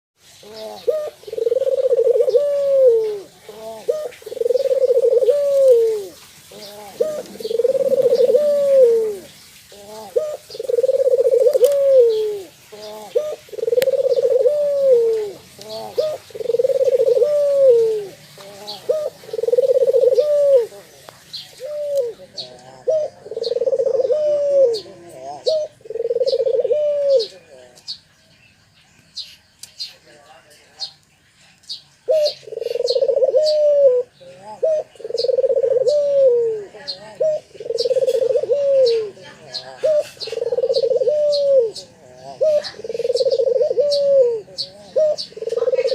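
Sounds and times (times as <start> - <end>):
dove cooing: 0.2 - 27.9, 32.0 - 45.9
small birds chirping: 0.2 - 45.9.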